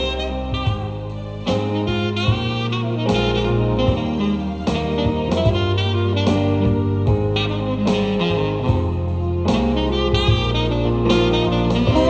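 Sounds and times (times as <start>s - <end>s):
bass and drums backing: 0.0s - 12.0s
saxophone solo: 0.0s - 12.0s.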